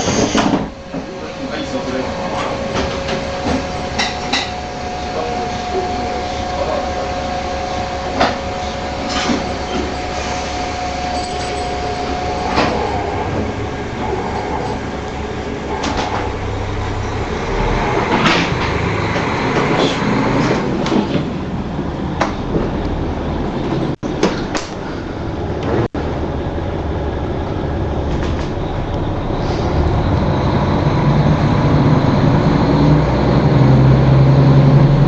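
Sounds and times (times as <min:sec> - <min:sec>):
steady whine: 0:00.0 - 0:35.0
train rumble: 0:00.0 - 0:35.0.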